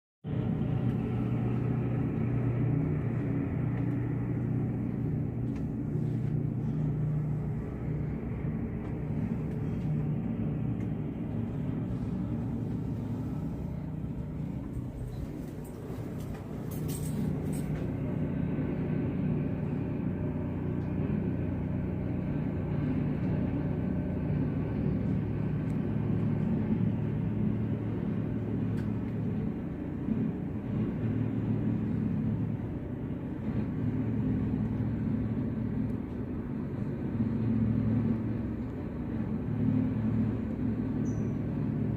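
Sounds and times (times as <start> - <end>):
vehicle engine running: 0.3 - 41.9.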